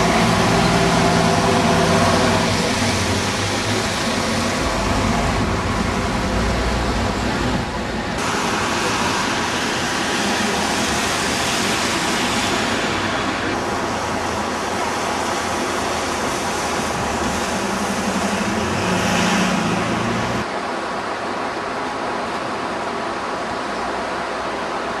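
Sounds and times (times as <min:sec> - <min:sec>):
bus engine accelerating: 0:00.0 - 0:20.5
road traffic: 0:00.0 - 0:25.0.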